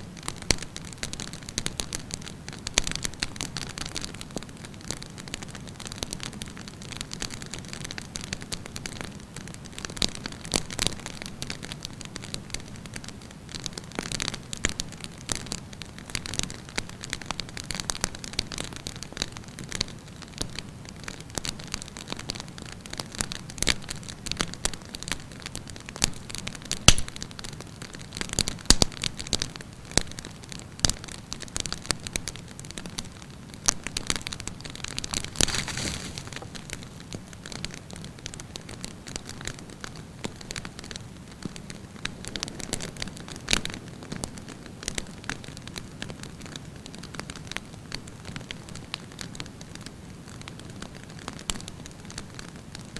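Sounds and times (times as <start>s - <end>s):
burning wood crackling and popping: 0.0s - 52.9s
campfire flames hissing: 0.1s - 52.7s.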